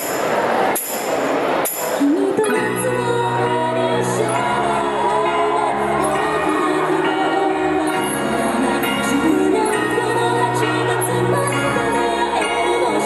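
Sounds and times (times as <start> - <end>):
crowd noise: 0.0 - 13.0
woman singing slow song: 2.0 - 13.0.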